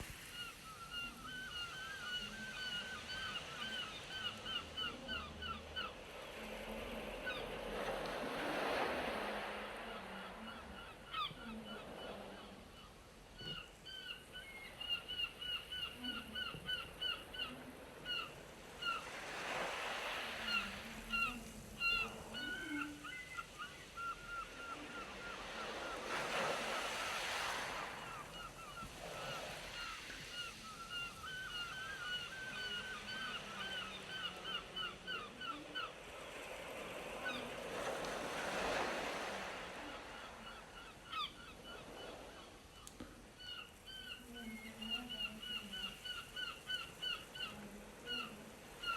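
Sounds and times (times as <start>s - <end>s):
sea waves washing: 0.0s - 13.6s, 17.5s - 48.9s.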